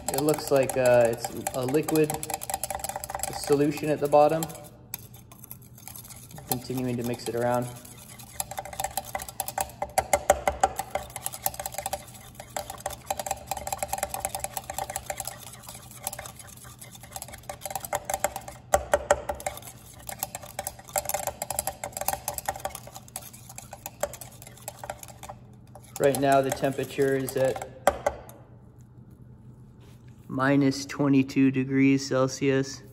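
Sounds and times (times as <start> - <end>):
thermometer clinking in glass beaker: 0.0 - 27.6.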